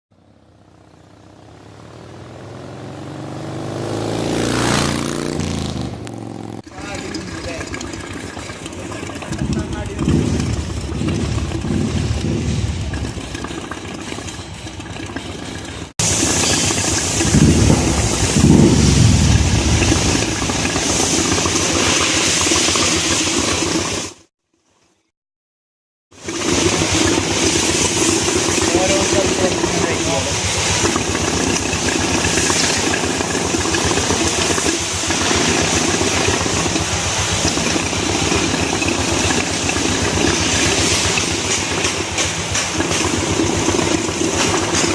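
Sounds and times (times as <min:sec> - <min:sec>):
motorcycle engine running: 0:00.1 - 0:24.3, 0:26.1 - 0:44.9.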